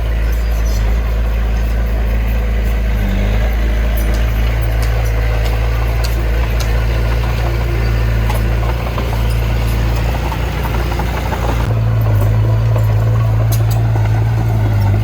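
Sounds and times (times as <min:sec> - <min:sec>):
diesel machinery engine droning: 0:00.0 - 0:15.0.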